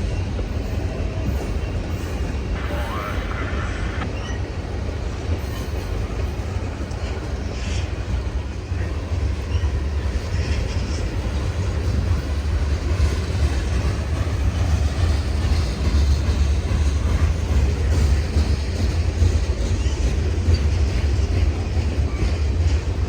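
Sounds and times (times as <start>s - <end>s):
freight train rolling on rails: 0.0s - 23.0s.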